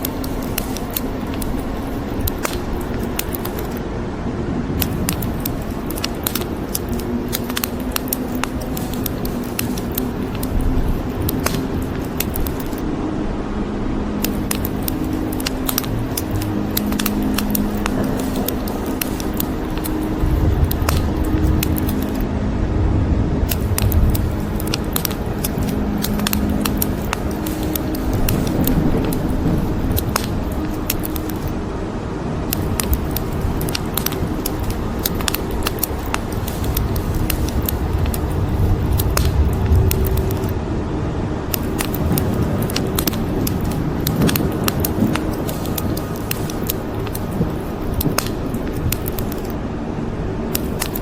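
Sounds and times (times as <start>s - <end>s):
wood fire crackling: 0.0s - 12.8s, 14.1s - 22.2s, 23.5s - 40.7s, 41.4s - 49.6s, 50.5s - 51.0s
rain hissing: 0.0s - 49.7s.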